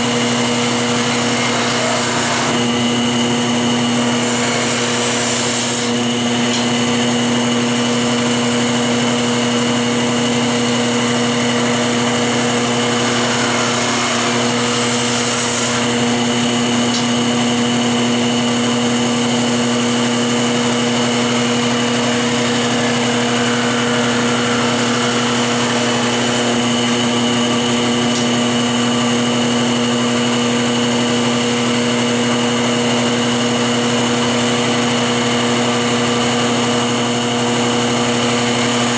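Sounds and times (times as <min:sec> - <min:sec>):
tool cutting spinning wood: 0:00.0 - 0:38.9
wood lathe motor humming: 0:00.0 - 0:38.9.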